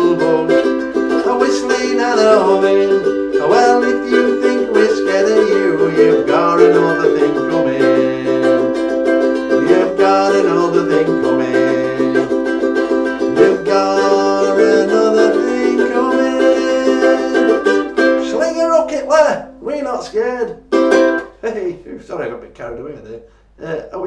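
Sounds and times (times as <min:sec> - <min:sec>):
ukulele strummed chords: 0:00.0 - 0:21.7.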